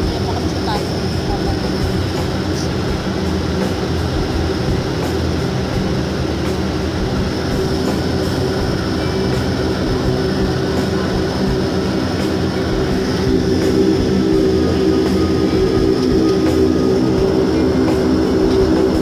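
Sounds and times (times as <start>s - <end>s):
airliner cabin engine drone: 0.0s - 19.0s
low steady hum: 0.0s - 19.0s.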